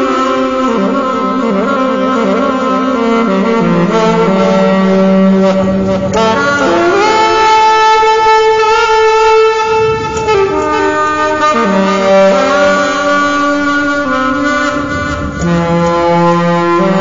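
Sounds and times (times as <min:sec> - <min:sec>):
saxophone slow melody: 0:00.0 - 0:17.0.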